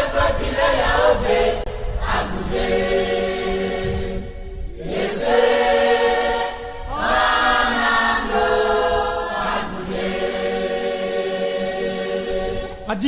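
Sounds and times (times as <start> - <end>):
choir singing slow chant: 0.0 - 12.9.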